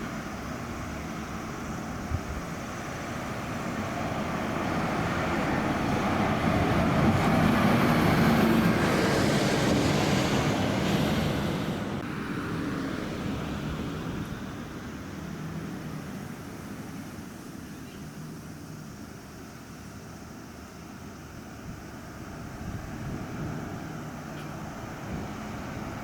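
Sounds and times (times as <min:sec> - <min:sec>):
bus driving past: 0:00.0 - 0:26.0.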